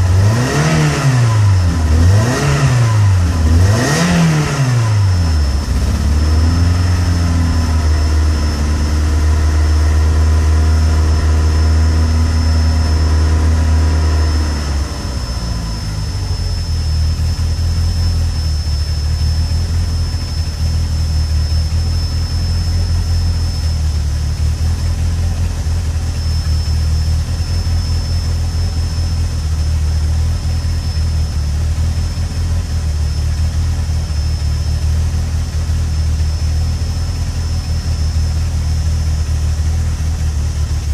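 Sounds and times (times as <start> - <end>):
car engine idling roughly: 4.6 - 40.9.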